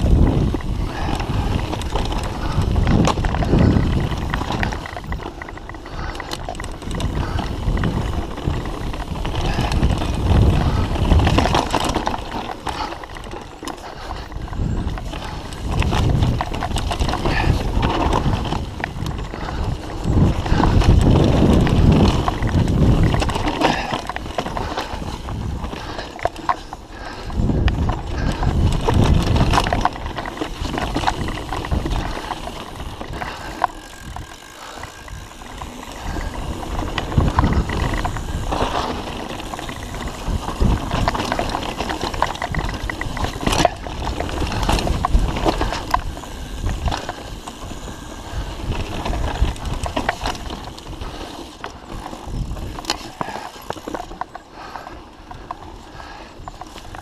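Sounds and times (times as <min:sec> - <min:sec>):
bike rattling over bumps: 0:00.0 - 0:57.0
bike tyres on dirt: 0:00.0 - 0:57.0.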